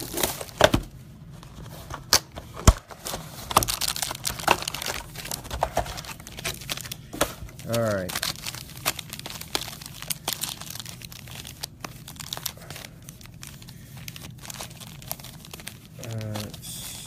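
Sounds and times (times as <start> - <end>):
card pack wrappers crinkling: 0.0 - 0.8, 1.6 - 17.0.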